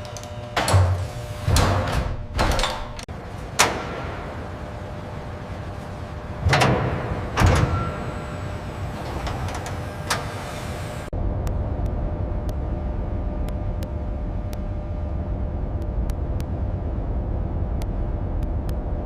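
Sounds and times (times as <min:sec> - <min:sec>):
steady hum: 0:00.0 - 0:19.0
steady rumble: 0:00.3 - 0:19.0.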